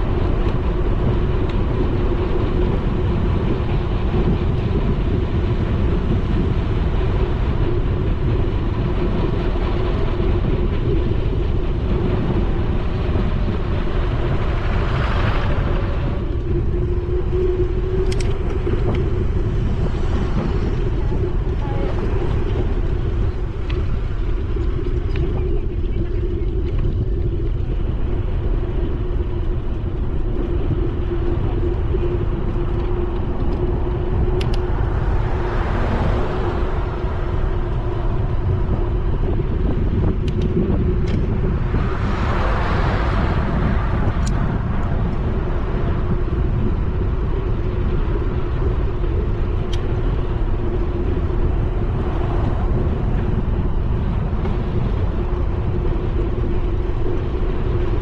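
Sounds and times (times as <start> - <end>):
passing car: 0.0 - 25.1, 29.6 - 58.0
constant hum: 0.0 - 58.0
wind and road noise: 0.0 - 58.0.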